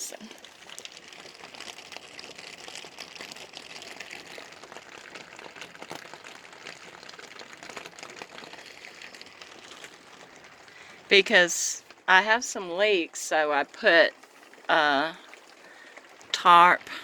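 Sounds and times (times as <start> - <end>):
rain pattering on a tarp roof: 0.0 - 17.0.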